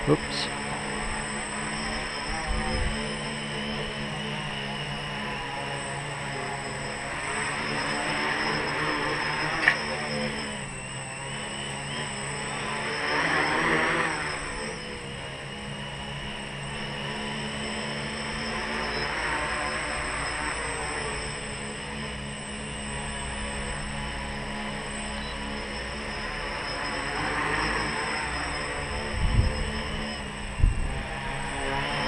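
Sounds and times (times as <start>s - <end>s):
drone motors and propellers whirring: 0.0s - 32.0s.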